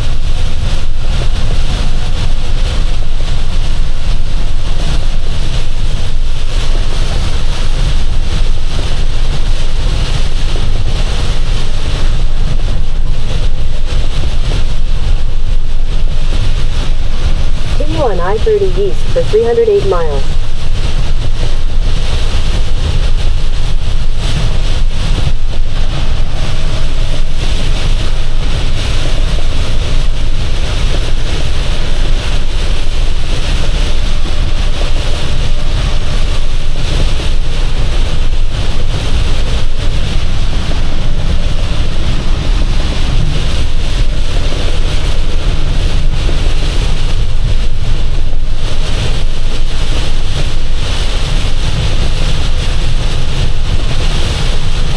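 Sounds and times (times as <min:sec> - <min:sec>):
wind and road spray hiss: 0:00.0 - 0:17.8, 0:20.3 - 0:54.9
engine and tyre rumble: 0:00.0 - 0:17.9, 0:20.3 - 0:54.9.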